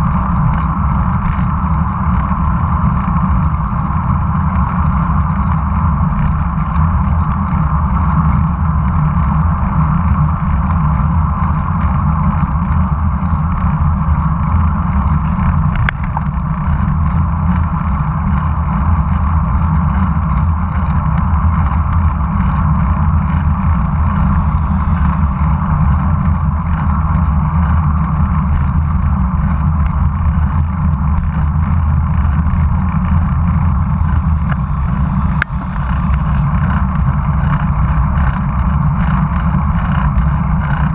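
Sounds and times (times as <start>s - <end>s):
road and tyre noise: 0.0s - 40.9s
wind rumble on microphone: 0.0s - 40.9s.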